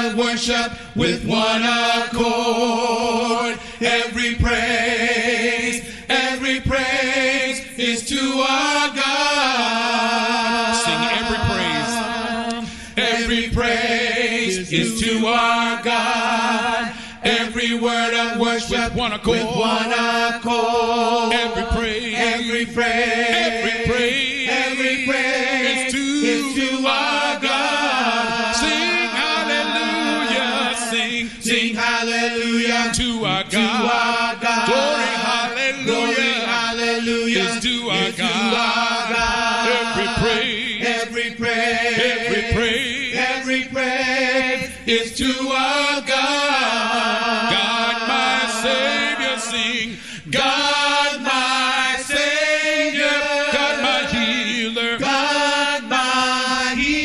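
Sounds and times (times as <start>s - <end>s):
group singing gospel chorus: 0.0s - 57.0s.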